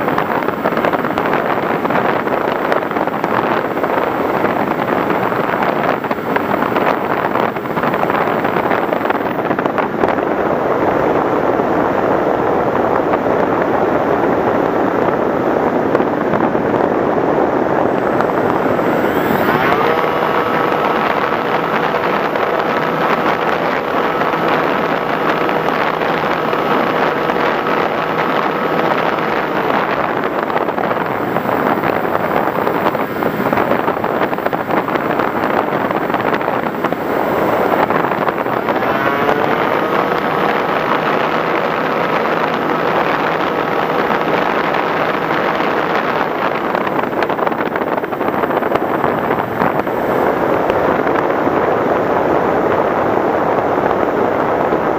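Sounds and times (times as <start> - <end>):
model aircraft motor whine: 0.0 - 10.2, 16.4 - 51.3
wind rush: 0.0 - 54.9.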